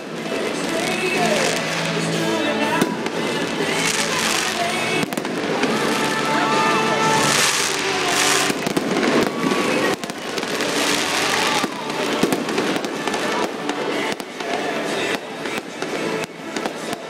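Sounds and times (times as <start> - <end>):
fireworks bangs: 0.0 - 17.0
hissing fireworks crackle: 0.0 - 17.0.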